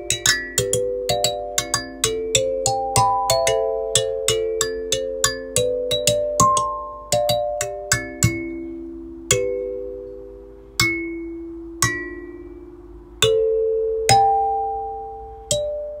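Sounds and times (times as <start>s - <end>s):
slow chiming melody: 0.0s - 16.0s.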